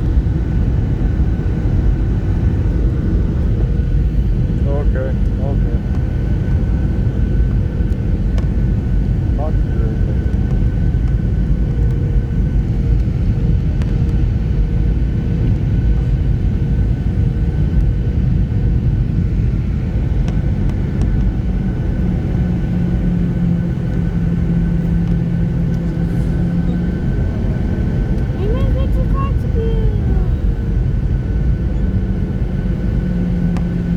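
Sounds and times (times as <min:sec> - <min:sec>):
airliner cabin engine rumble: 0:00.0 - 0:33.9
constant engine whine: 0:00.0 - 0:33.9
low hum: 0:00.0 - 0:33.9.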